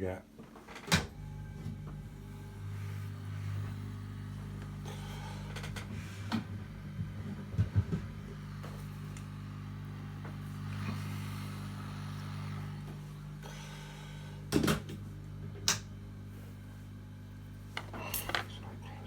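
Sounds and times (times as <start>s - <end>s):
hot air station humming and hissing: 0.8s - 19.0s.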